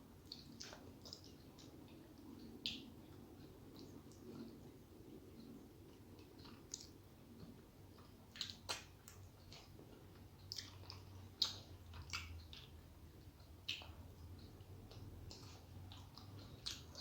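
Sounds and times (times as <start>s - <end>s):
faint low hum: 0.0s - 17.0s
person chewing wetly: 0.2s - 17.0s.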